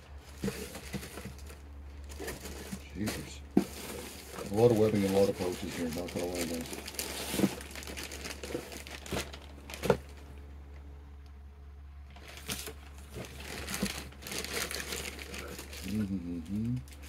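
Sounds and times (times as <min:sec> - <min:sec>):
plastic packaging crinkling: 0:00.2 - 0:10.5, 0:12.1 - 0:17.0.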